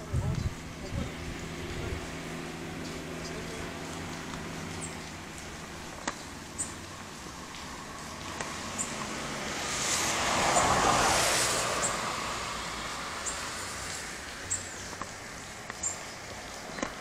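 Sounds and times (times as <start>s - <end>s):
vehicle passing on wet road: 0.0s - 17.0s.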